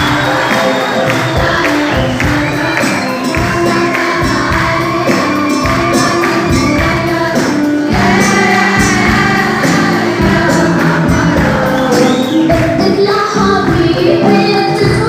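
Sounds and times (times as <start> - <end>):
choir singing: 0.0 - 13.8
instrumental backing: 0.0 - 15.0
rhythmic percussion: 0.0 - 15.0.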